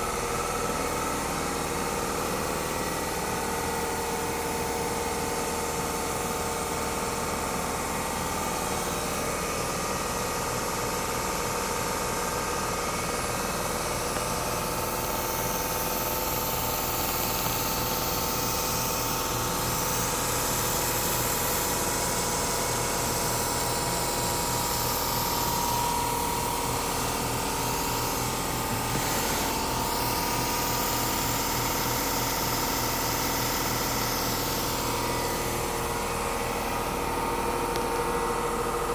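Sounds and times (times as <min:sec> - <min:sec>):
laser cutter hum and hiss: 0:00.0 - 0:38.9.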